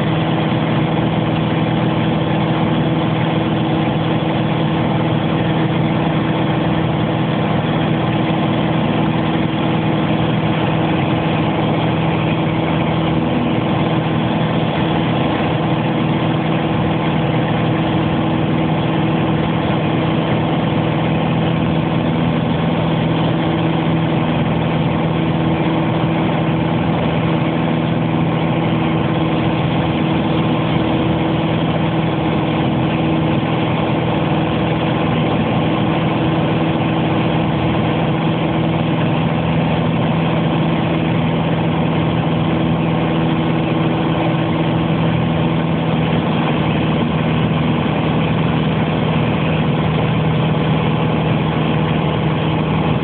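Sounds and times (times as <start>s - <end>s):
aeroplane engine drone: 0.0s - 53.0s.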